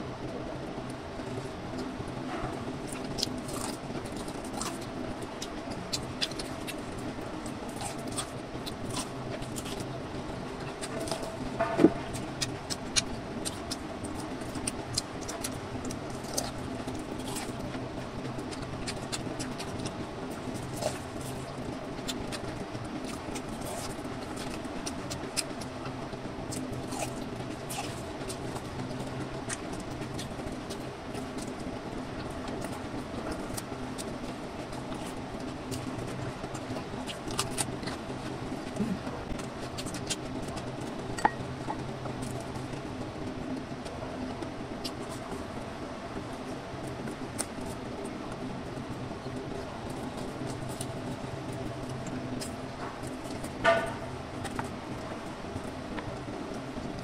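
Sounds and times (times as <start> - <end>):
low background hum: 0.0 - 57.0
chewing corn on the cob: 0.8 - 57.0.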